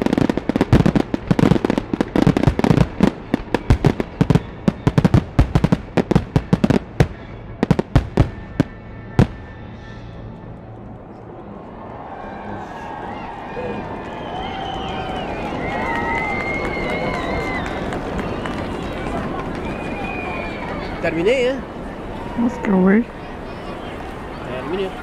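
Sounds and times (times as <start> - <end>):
fireworks bangs and crackles: 0.0 - 9.9, 14.1 - 25.0.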